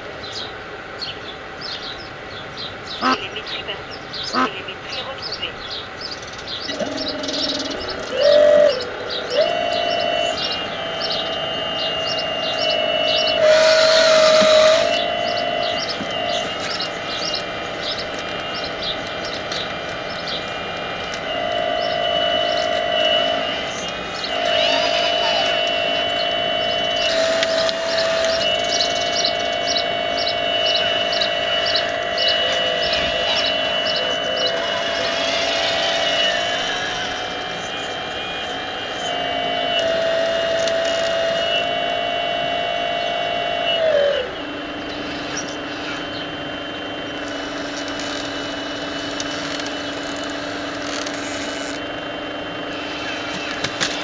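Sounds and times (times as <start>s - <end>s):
birds chirping: 0.0s - 52.0s
model excavator motors whining: 5.4s - 54.0s.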